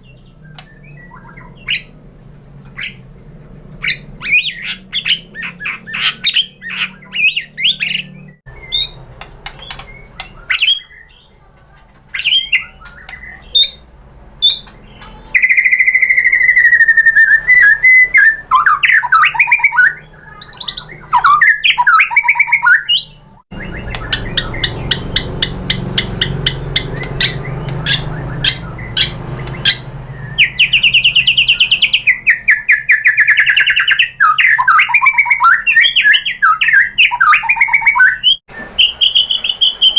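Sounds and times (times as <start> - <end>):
bird singing loudly: 0.0 - 2.0, 2.7 - 3.1, 3.8 - 11.5, 12.1 - 39.9.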